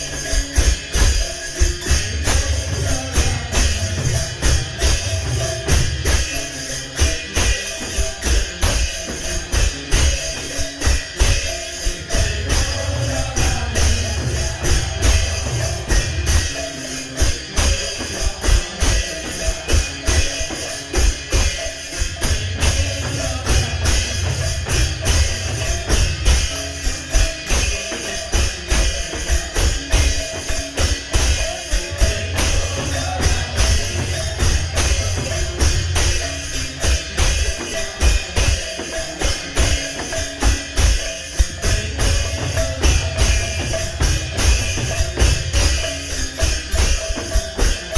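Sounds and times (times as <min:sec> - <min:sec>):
drum strokes: 0:00.0 - 0:47.9
jingling hand percussion: 0:00.0 - 0:47.9.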